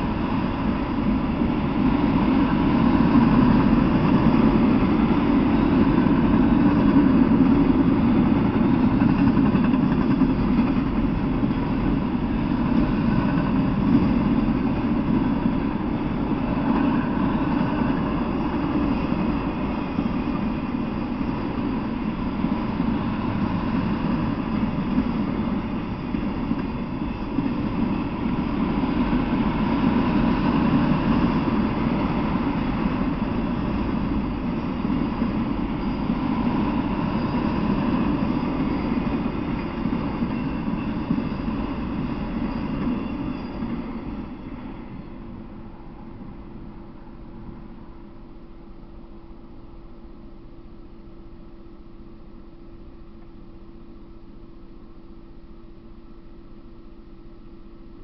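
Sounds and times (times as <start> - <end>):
freight train rolling on rails: 0.0 - 52.5.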